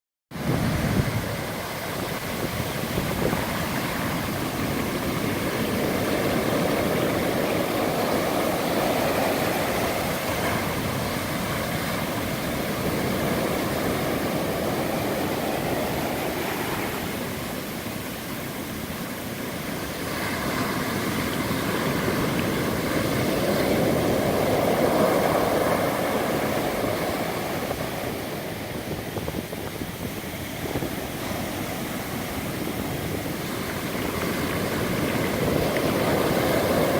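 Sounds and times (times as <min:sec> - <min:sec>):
ocean waves breaking: 0:00.3 - 0:36.9.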